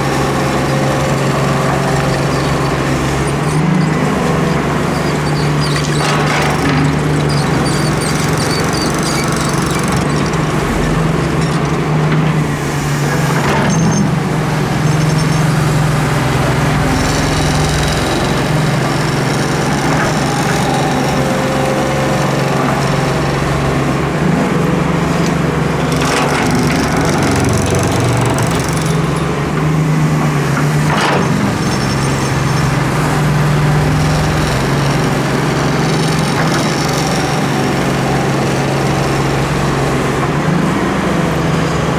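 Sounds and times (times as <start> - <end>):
excavator diesel engine under load: 0.0 - 41.9
excavator digging sand: 0.0 - 41.9.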